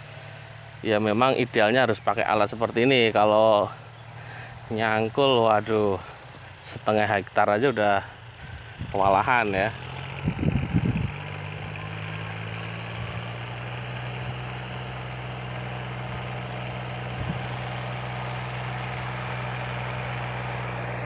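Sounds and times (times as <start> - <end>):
tractor engine humming: 0.0 - 21.0.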